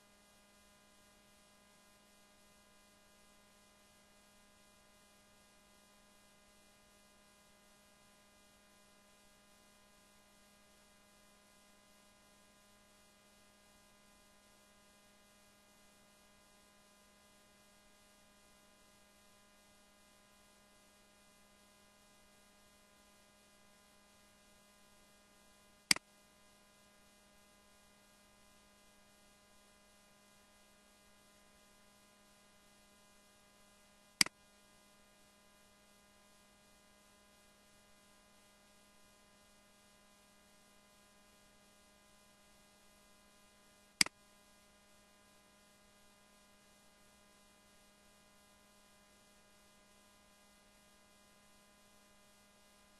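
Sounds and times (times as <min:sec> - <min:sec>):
faint electrical hum: 0:00.0 - 0:52.9.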